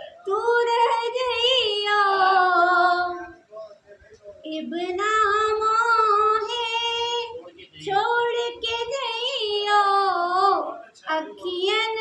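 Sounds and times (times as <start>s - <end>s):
woman singing unaccompanied: 0.1s - 3.4s, 4.5s - 12.0s.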